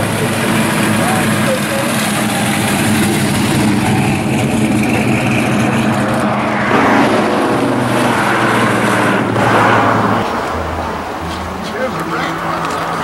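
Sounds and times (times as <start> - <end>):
cars driving at highway speed: 0.0 - 13.0
wind and tyre noise: 0.0 - 13.0.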